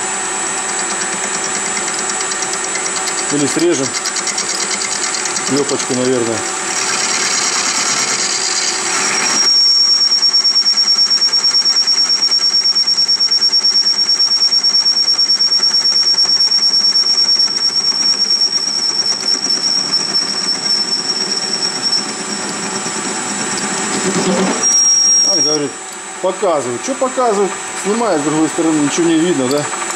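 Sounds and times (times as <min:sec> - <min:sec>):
high-pitched cutting whine: 0:00.0 - 0:12.6, 0:14.8 - 0:29.9
metal lathe running: 0:00.0 - 0:29.9.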